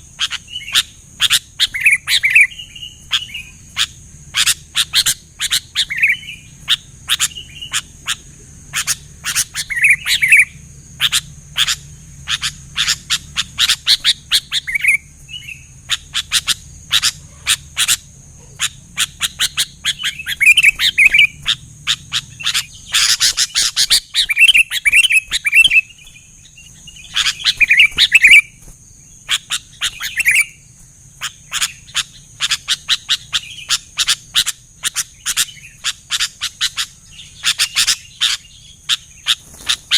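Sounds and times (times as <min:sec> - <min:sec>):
bird calling chip notes and warbles: 0:00.0 - 0:39.9.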